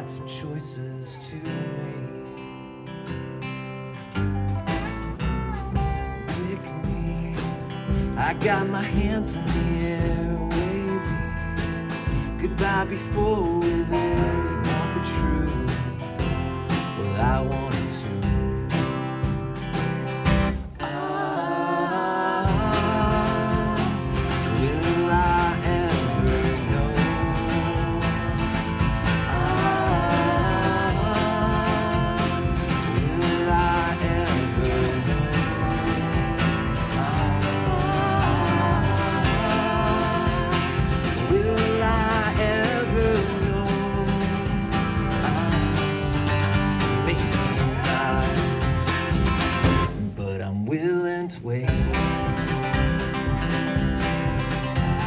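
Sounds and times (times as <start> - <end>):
indie rock band playing live: 1.6 - 50.3, 51.7 - 55.0
sliding lead melody: 3.0 - 50.1.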